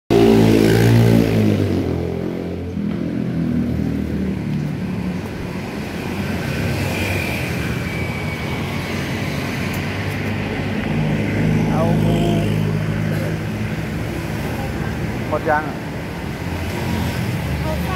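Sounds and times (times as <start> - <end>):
close vehicle engine: 0.1 - 17.9
passing cars and motorcycles: 0.1 - 17.9.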